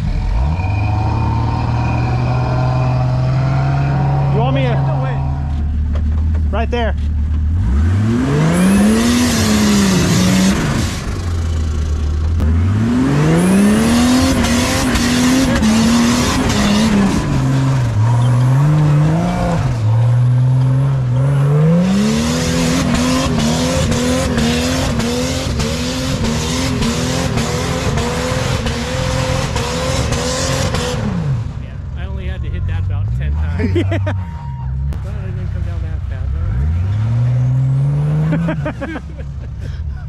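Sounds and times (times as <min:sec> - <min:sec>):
engine revving hard: 0:00.0 - 0:05.6, 0:07.5 - 0:11.5, 0:12.4 - 0:33.8, 0:35.6 - 0:39.2.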